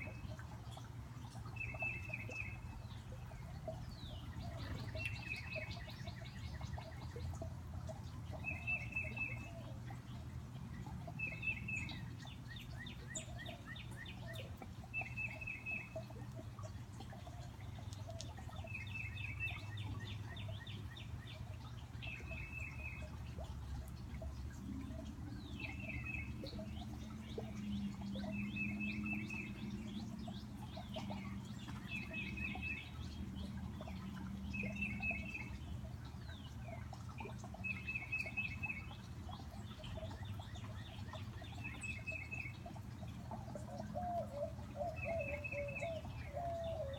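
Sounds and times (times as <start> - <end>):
fountain water rushing: 0.0 - 46.9.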